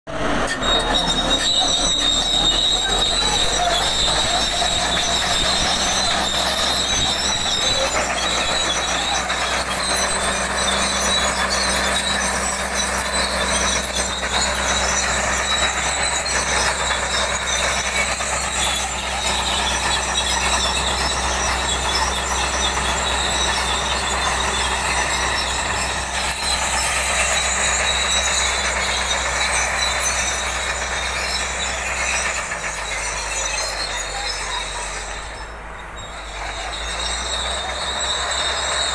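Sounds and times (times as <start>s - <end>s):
diesel tractor engine under load: 0.0s - 38.9s
steel tracks squealing and clanking: 0.1s - 38.9s.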